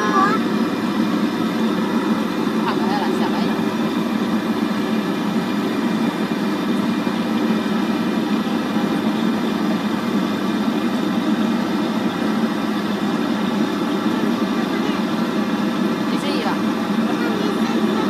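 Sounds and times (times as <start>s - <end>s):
gas burner rushing: 0.0s - 18.0s.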